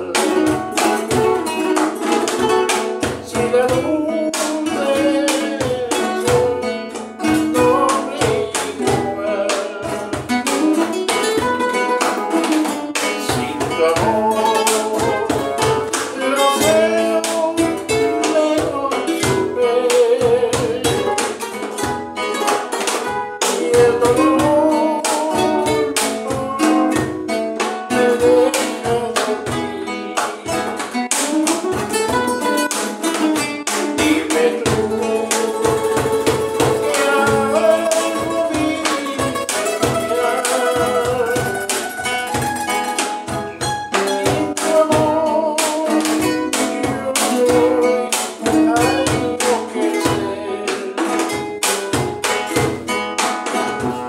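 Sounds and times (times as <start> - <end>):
cajon beat: 0.0 - 54.0
classical guitars playing: 0.0 - 54.0
man singing: 0.0 - 54.0.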